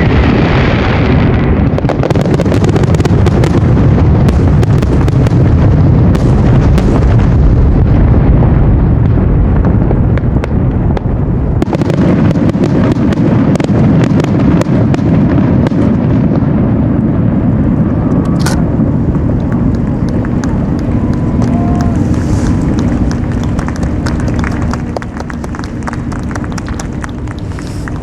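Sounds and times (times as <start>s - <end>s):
fireworks booming: 0.0s - 28.0s
fireworks crackling: 0.0s - 28.0s.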